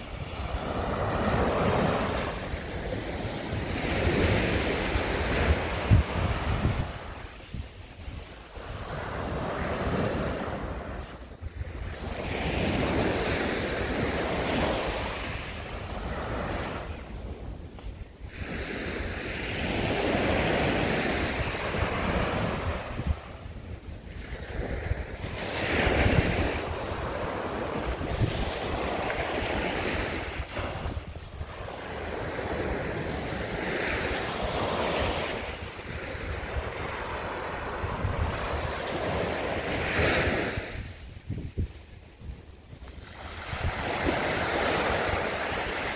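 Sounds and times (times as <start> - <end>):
sea waves breaking on a beach: 0.0 - 45.9
wind buffeting the microphone: 0.0 - 45.9.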